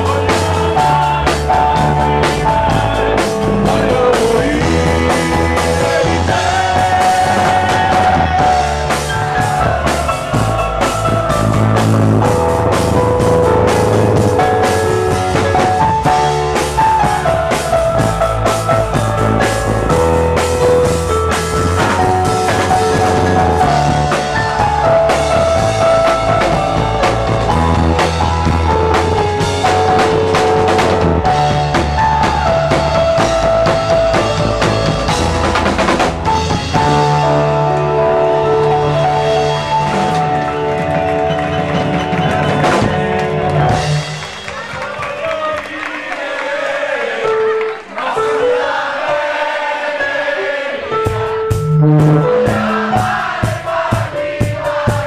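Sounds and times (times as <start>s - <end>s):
drum kit beat: 0.0s - 44.5s, 50.9s - 55.0s
rock band playing: 0.0s - 44.8s, 50.8s - 55.0s.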